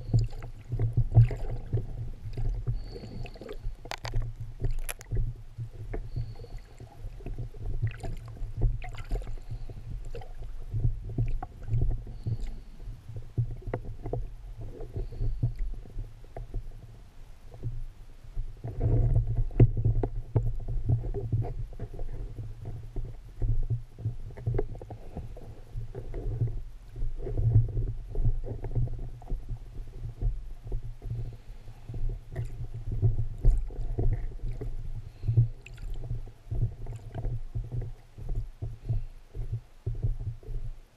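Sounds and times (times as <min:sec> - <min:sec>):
muffled underwater rumbling: 0:00.0 - 0:40.9.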